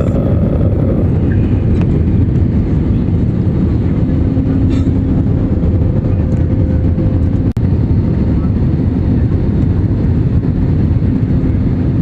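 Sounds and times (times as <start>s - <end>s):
airplane landing rumble: 0.0s - 12.0s.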